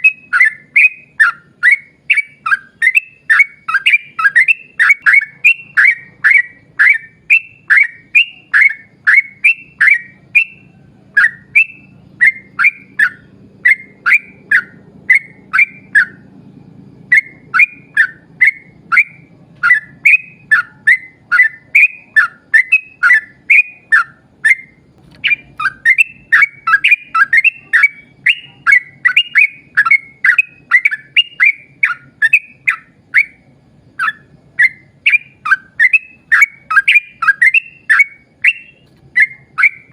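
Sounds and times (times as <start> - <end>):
bird singing chirping notes: 0.0 - 39.9
faint low hum: 0.0 - 39.9.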